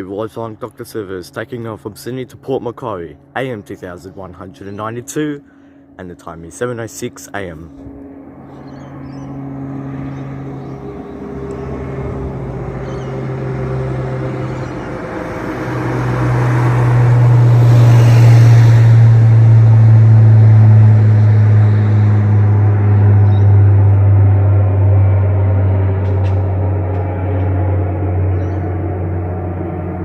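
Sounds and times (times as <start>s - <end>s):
turboprop plane droning overhead: 0.0s - 30.0s.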